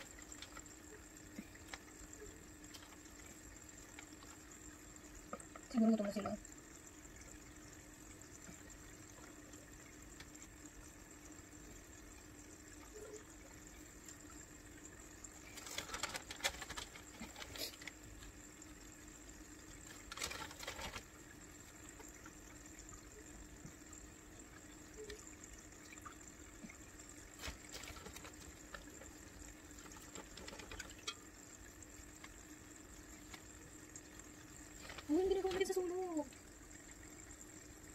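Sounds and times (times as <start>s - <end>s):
aquarium water splashing: 0.0s - 37.9s
faint steady hum: 0.0s - 37.9s.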